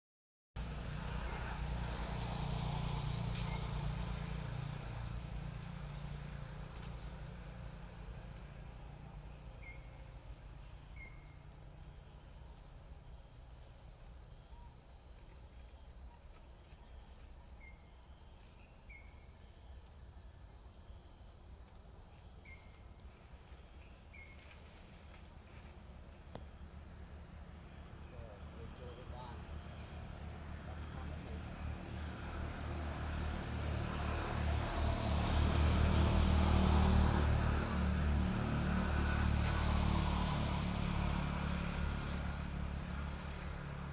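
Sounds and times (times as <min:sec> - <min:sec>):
insect hum: 0:00.6 - 0:43.9.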